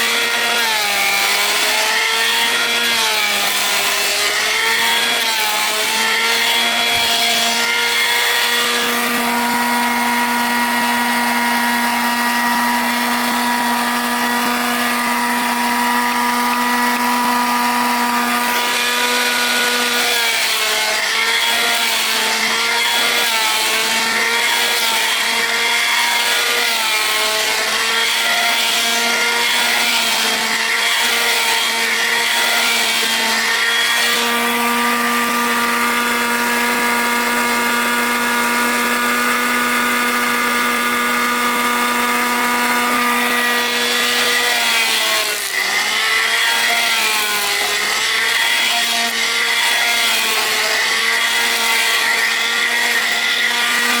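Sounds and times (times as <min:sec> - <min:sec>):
power tool whining cutting wood: 0:00.0 - 0:54.0.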